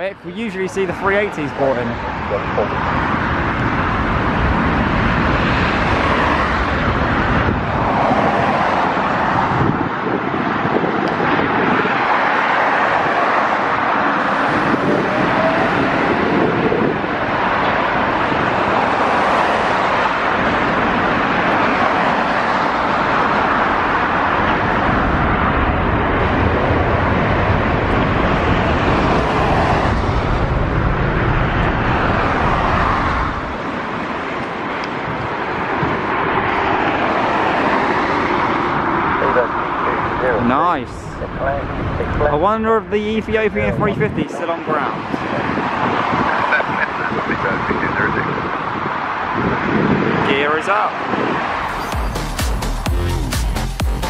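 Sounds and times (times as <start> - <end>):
wind buffeting microphone: 0.0 - 51.9
jet engines rumbling: 0.0 - 54.0.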